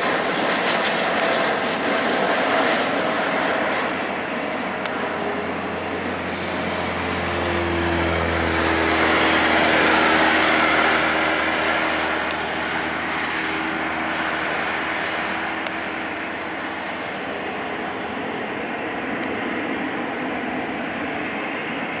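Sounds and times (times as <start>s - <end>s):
jet engine rushing roar: 0.0s - 22.0s.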